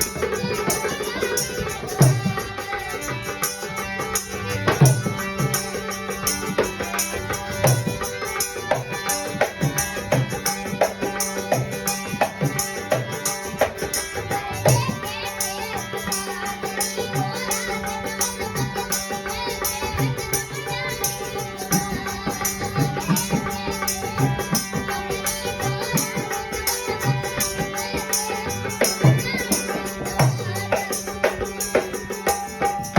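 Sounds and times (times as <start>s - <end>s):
hand drum: 0.0s - 32.9s
rattling percussion: 0.0s - 32.9s.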